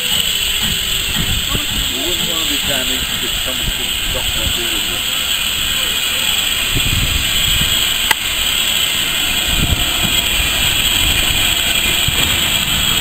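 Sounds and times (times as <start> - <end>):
steam hissing: 0.0 - 13.0
steam locomotive chuffs: 0.0 - 13.0.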